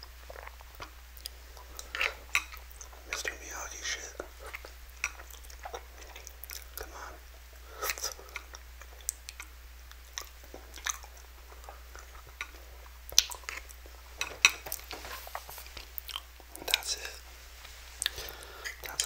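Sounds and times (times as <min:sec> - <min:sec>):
chewing and mouth sounds: 0:00.0 - 0:17.2, 0:18.0 - 0:19.0.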